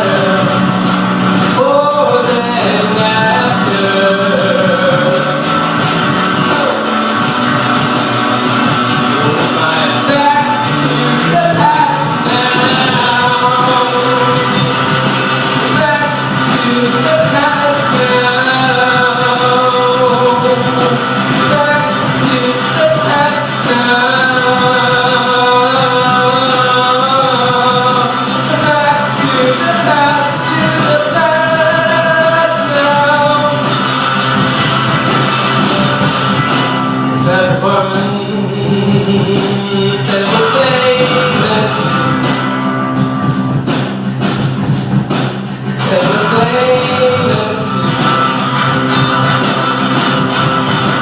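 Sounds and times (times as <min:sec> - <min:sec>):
singer holding long notes: 0:00.0 - 0:43.5, 0:45.5 - 0:51.0
rock band playing: 0:00.0 - 0:51.0.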